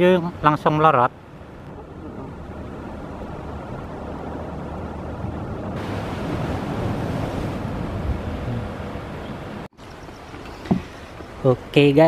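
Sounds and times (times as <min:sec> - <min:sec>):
sea waves: 0:00.0 - 0:12.0
wind buffeting microphone: 0:01.1 - 0:11.7.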